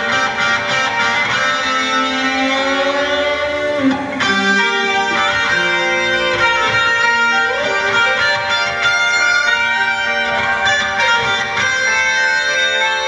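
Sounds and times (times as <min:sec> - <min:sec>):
slow guitar melody: 0:00.0 - 0:13.0.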